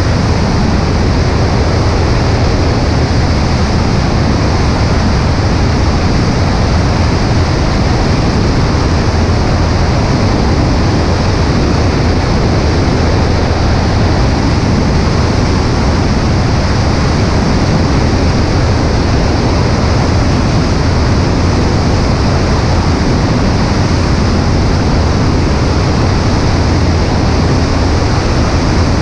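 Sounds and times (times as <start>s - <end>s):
plane engine and propeller running: 0.0s - 29.0s
wind rushing over microphone: 0.0s - 29.0s.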